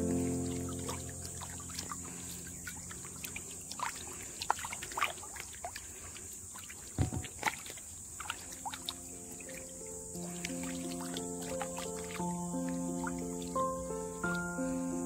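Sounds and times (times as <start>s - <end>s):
water splashing and sloshing: 0.1s - 14.5s.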